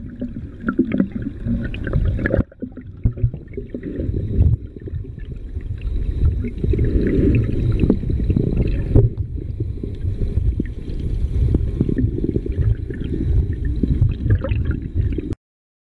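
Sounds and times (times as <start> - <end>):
muffled underwater stream rumbling: 0.0 - 15.4.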